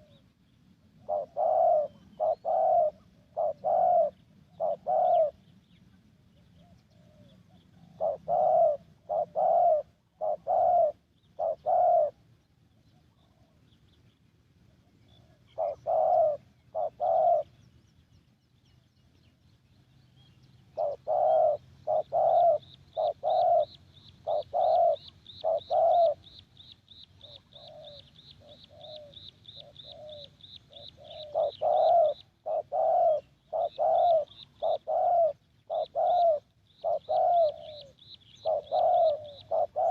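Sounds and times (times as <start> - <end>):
dove cooing: 0.0 - 5.5, 6.4 - 12.3, 15.1 - 17.6, 20.7 - 39.9.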